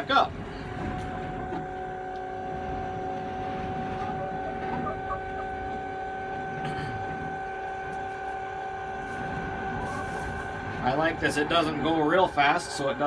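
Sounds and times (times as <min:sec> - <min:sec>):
electric motor whining: 0:00.6 - 0:13.0.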